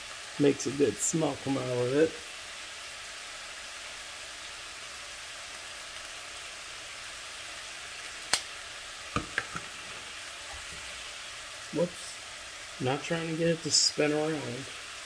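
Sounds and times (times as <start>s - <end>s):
vegetables sizzling in a skillet: 0.0s - 15.0s.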